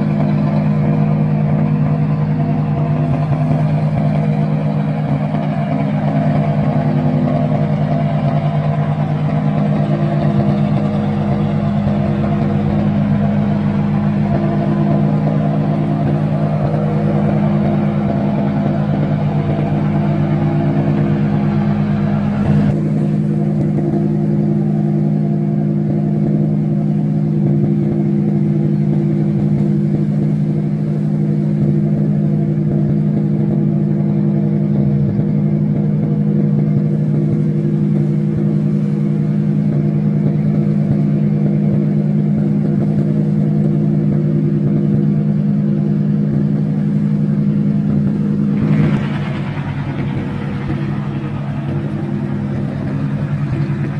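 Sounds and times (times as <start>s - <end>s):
boat diesel engines droning: 0.0s - 53.9s.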